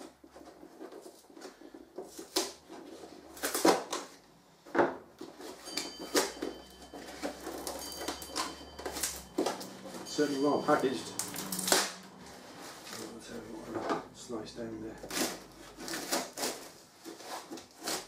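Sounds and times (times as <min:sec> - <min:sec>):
knife cutting and tearing cardboard: 0:00.0 - 0:04.2, 0:05.2 - 0:13.8, 0:14.9 - 0:18.0.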